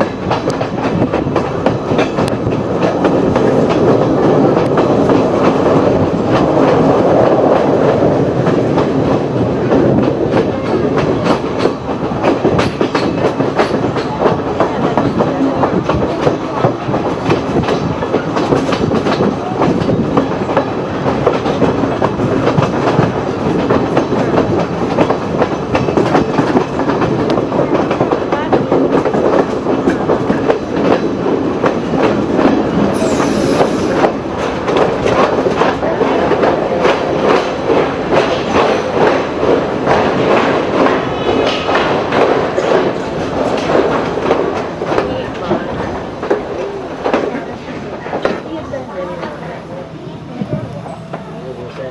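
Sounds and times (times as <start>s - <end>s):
train running with rattles: 0.0s - 51.9s.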